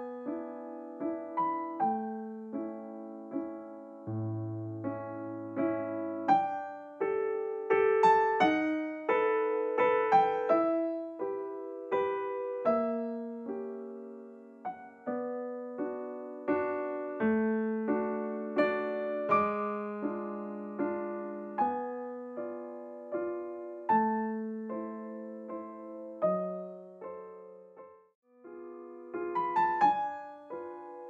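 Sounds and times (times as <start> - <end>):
slow gentle piano music: 0.0 - 31.0.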